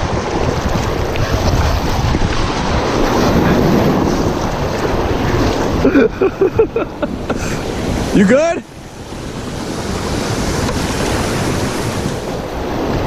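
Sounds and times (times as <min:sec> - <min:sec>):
whitewater rapids rushing: 0:00.0 - 0:13.0
wind buffeting microphone: 0:00.0 - 0:13.0.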